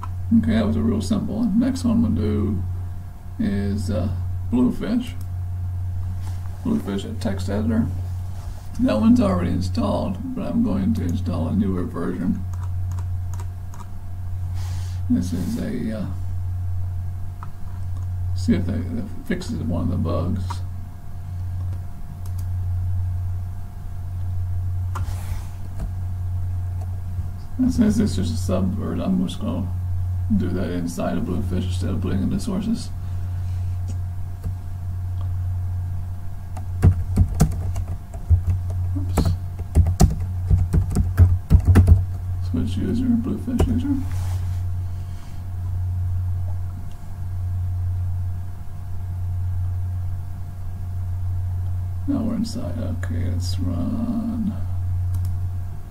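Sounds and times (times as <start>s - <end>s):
low background hum: 0.0s - 55.9s.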